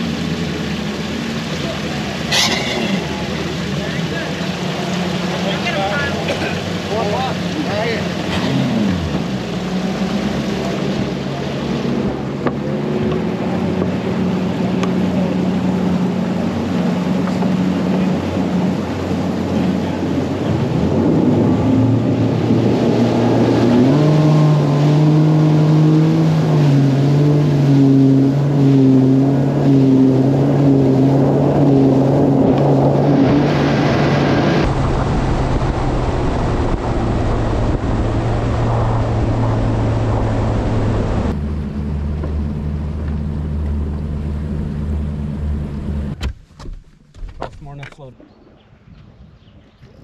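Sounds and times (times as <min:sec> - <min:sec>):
outboard motor running: 0:00.0 - 0:46.8
hull slapping water: 0:00.0 - 0:49.2
wind: 0:00.0 - 0:50.0.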